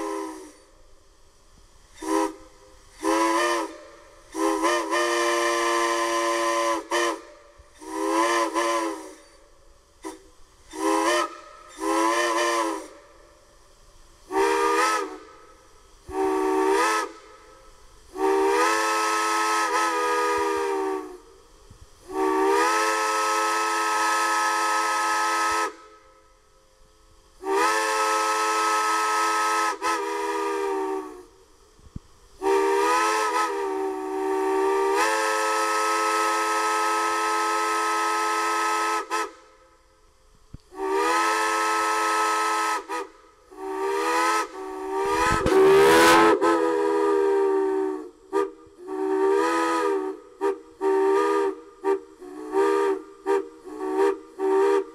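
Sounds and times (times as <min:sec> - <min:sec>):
steam whistles sounding a chord: 0:00.0 - 0:01.1, 0:02.0 - 0:31.8, 0:32.4 - 0:40.1, 0:40.7 - 0:54.9
steam hiss: 0:00.0 - 0:54.9.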